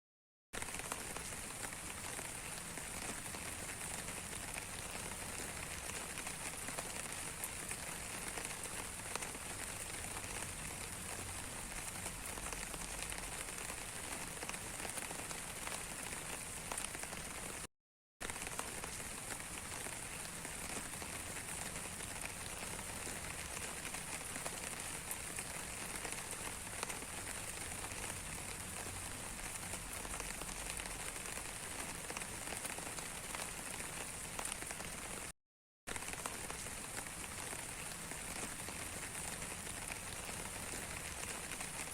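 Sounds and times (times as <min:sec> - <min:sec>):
rain falling: 0:00.6 - 0:35.3, 0:35.9 - 0:41.9.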